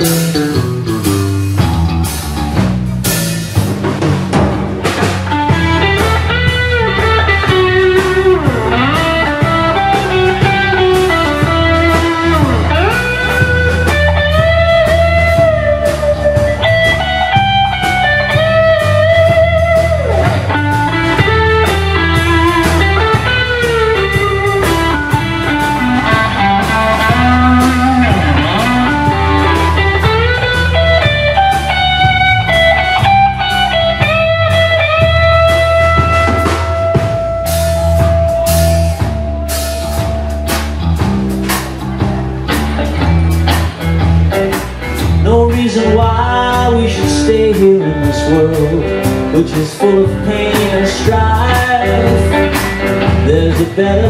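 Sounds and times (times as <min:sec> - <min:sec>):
drum kit: 0:00.0 - 0:54.0
electric bass: 0:00.0 - 0:54.0
electric guitar lead: 0:00.0 - 0:54.0.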